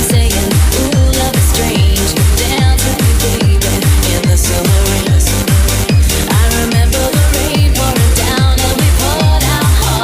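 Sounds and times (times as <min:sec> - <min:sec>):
deep kick drum: 0:00.0 - 0:10.0.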